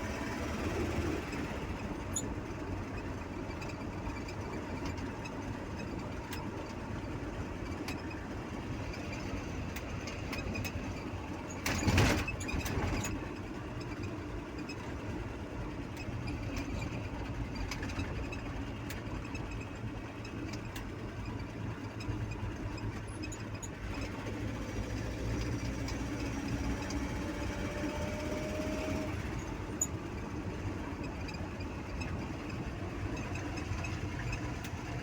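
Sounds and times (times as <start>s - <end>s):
engine running low rumble: 0.0s - 35.0s.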